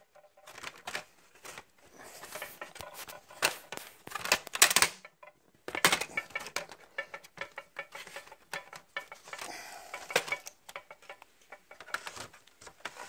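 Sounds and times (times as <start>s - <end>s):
laptop case clicks and rattles: 0.0s - 13.0s.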